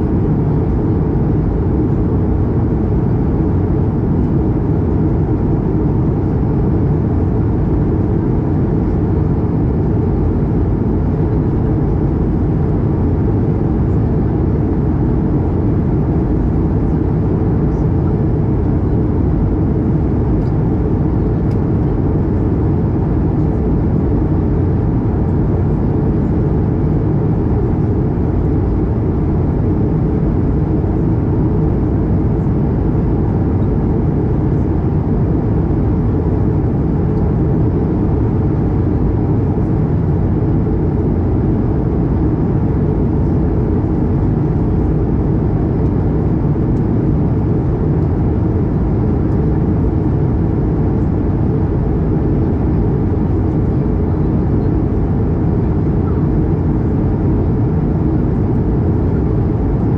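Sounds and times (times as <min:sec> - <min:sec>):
airplane cabin noise: 0:00.0 - 0:59.9
jet engines and airflow rush: 0:00.0 - 0:59.9.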